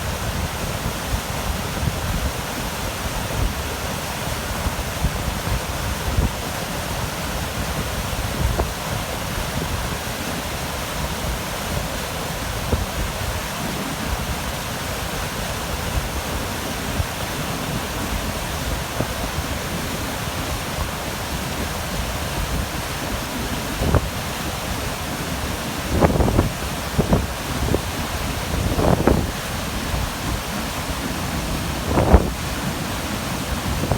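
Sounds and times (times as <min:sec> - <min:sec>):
rushing wind: 0:00.0 - 0:33.9
wind buffeting microphone: 0:00.0 - 0:33.9.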